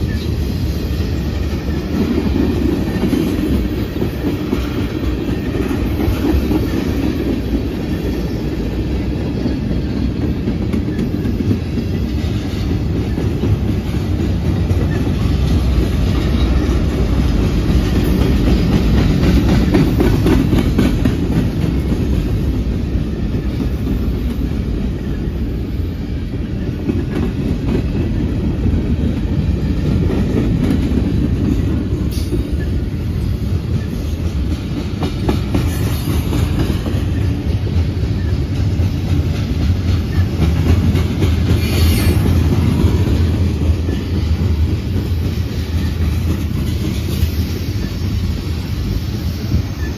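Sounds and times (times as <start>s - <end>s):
clickety-clack over rail joints: 0.0s - 49.9s
freight train wheels rumbling: 0.0s - 49.9s.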